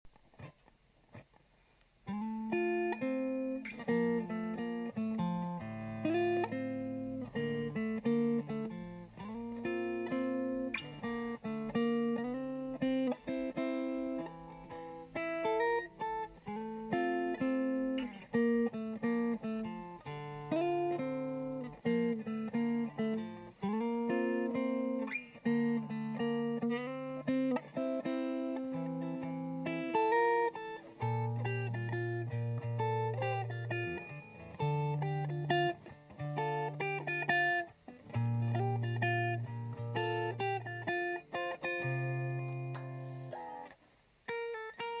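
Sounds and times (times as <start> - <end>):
electric guitar chords: 2.1 - 43.7.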